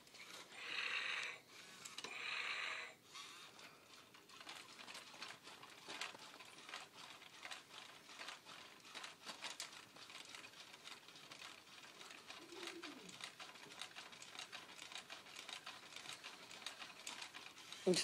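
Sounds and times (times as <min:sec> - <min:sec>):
toy motors clicking and ticking: 0:00.2 - 0:18.0.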